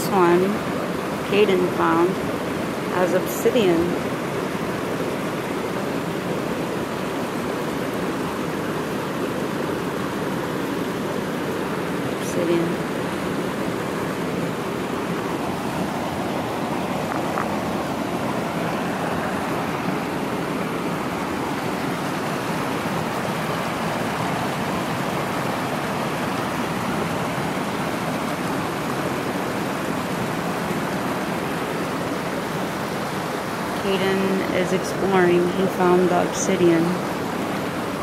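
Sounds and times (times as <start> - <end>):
stream running over boulders: 0.0 - 38.0.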